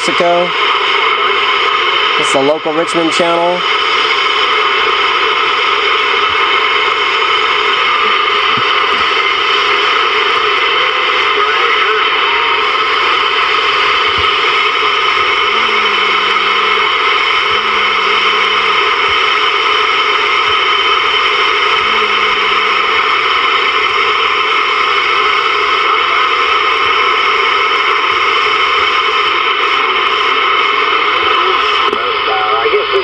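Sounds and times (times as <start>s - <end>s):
radio static hiss: 0.0s - 33.0s.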